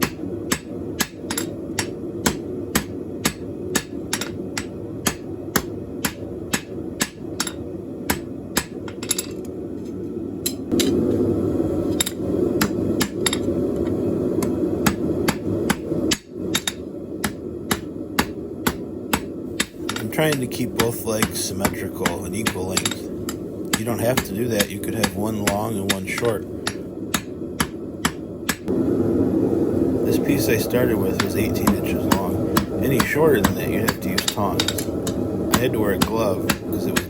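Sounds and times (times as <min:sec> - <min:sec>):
hammer striking steel on anvil: 0:00.0 - 0:09.4, 0:12.0 - 0:13.5, 0:14.4 - 0:23.1, 0:23.7 - 0:28.7, 0:31.2 - 0:37.0
low hum: 0:00.0 - 0:37.0.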